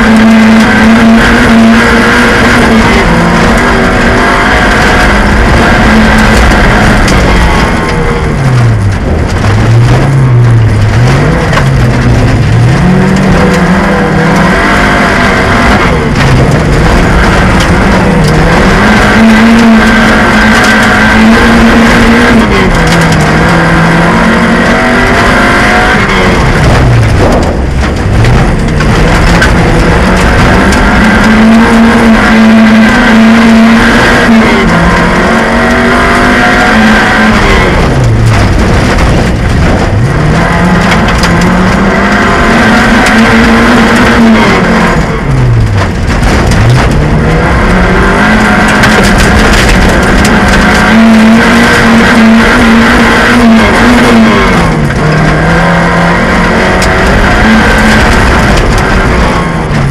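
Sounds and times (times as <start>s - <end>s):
car engine revving: 0.0s - 59.9s
dirt rumbling under car: 0.0s - 59.9s.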